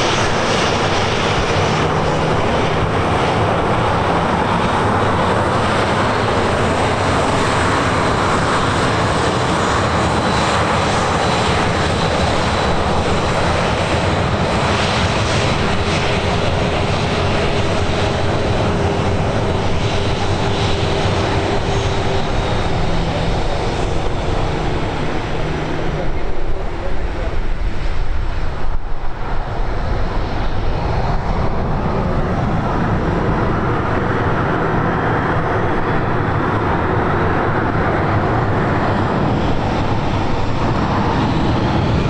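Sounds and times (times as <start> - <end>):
airliner engines rushing: 0.0 - 42.0.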